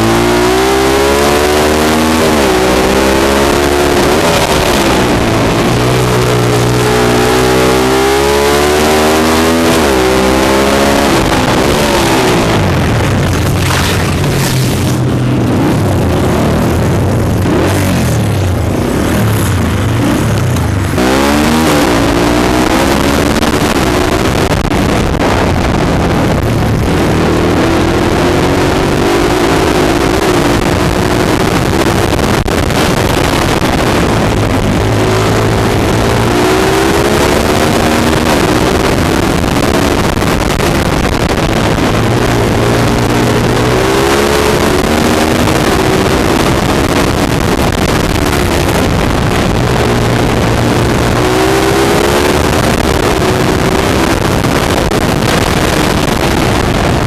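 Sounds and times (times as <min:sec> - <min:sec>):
dirt bike engine revving: 0:00.0 - 0:57.0
wind rush over microphone: 0:00.0 - 0:57.0.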